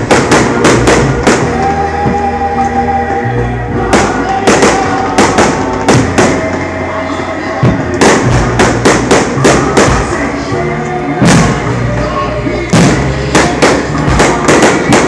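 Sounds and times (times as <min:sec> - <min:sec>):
fireworks exploding: 0:00.0 - 0:02.8, 0:03.8 - 0:15.0.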